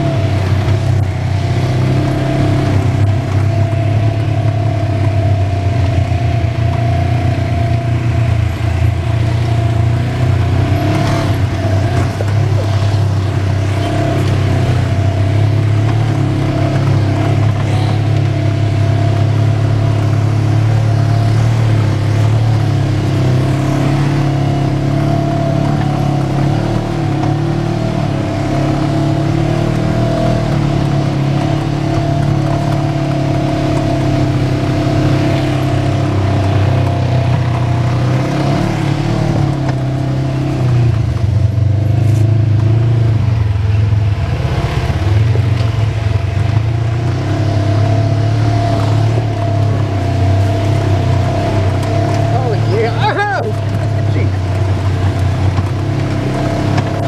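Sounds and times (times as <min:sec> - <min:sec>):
engine whine: 0:00.0 - 0:57.0
vehicle engine drone: 0:00.0 - 0:57.0.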